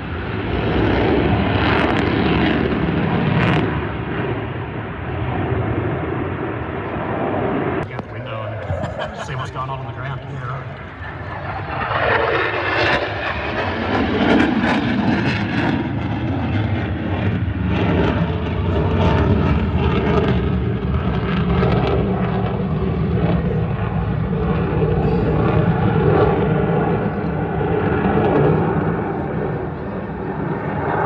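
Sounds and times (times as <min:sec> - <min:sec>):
airplane engine: 0:00.0 - 0:31.0.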